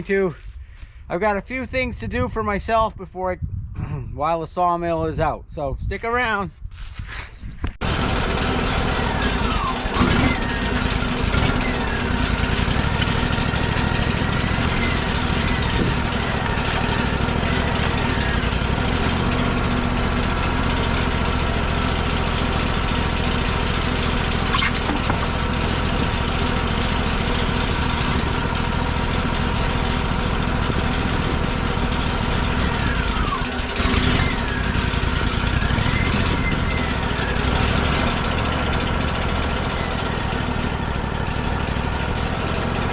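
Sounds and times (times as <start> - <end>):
band sawmill running: 7.8 - 42.9.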